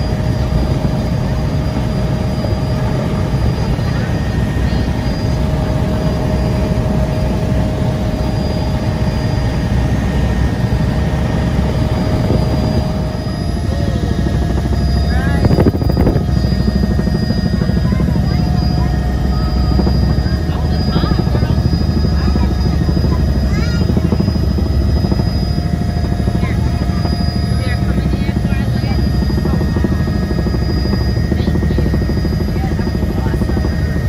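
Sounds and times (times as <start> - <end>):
constant whine: 0.0 - 34.0
helicopter cabin drone: 0.0 - 34.0.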